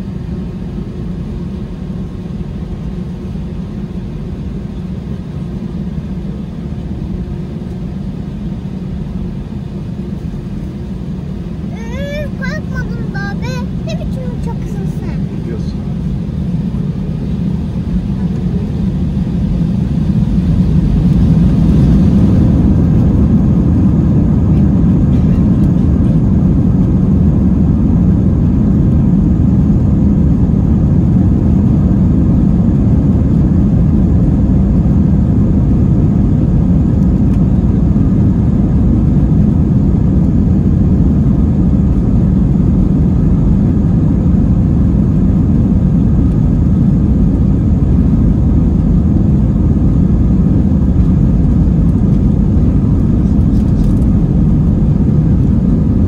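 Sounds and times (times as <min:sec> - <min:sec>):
jet engine rumble inside cabin: 0:00.0 - 0:56.0.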